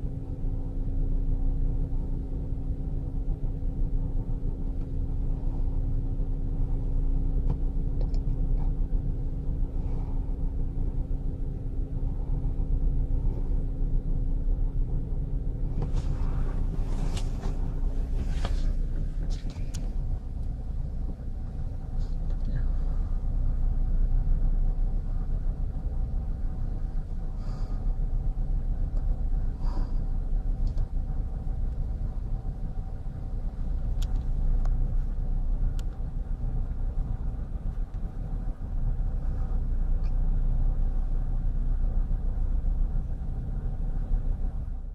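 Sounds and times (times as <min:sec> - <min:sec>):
ship engine rumbling: 0:00.0 - 0:44.9.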